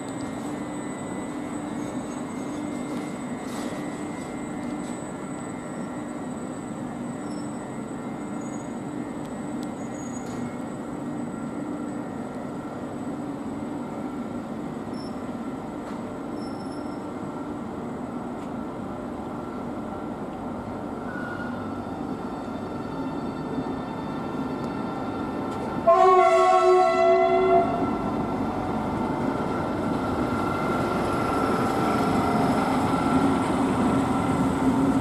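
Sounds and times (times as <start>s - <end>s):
electric train droning: 0.0s - 35.0s.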